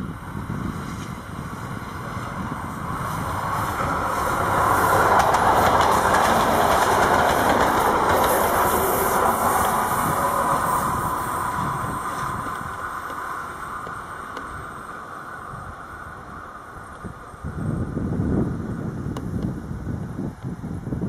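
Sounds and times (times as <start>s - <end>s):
wheels clattering over rail joints: 0.0s - 17.5s
diesel train passing: 0.0s - 20.2s.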